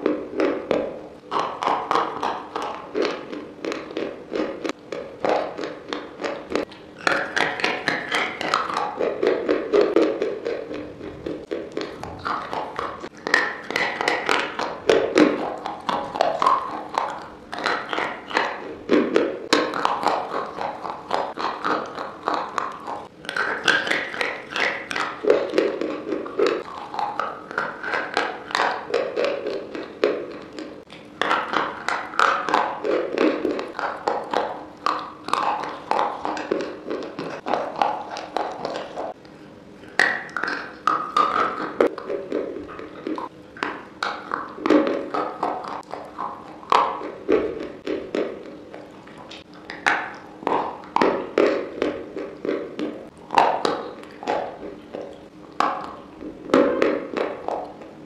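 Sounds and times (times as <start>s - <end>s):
crunching and chewing: 0.0s - 58.0s.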